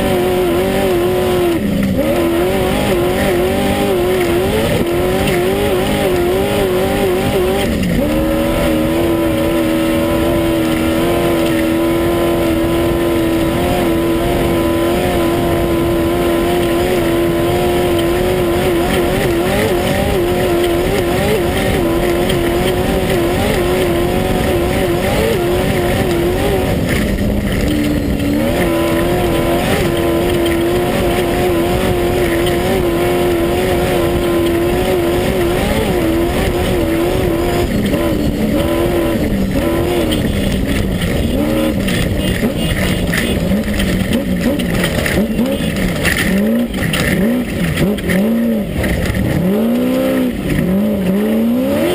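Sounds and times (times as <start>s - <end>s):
loud rattle and road noise: 0.0s - 51.9s
race buggy engine at high revs: 0.0s - 51.9s.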